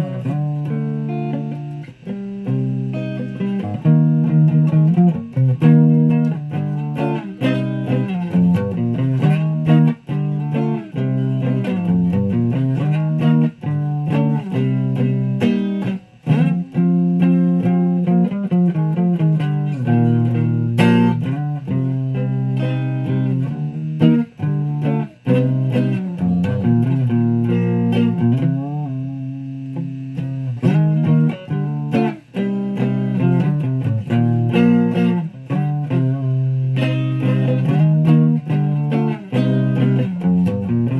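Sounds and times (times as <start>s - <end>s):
guitar playing: 0.0s - 40.9s.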